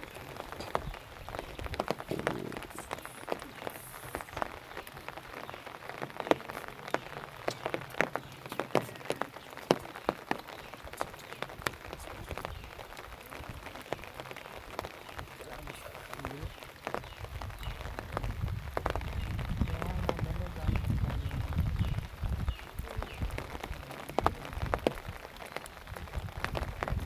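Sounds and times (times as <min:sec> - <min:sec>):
steady low hiss: 0:00.0 - 0:27.0
water splashing and dripping: 0:00.0 - 0:27.0.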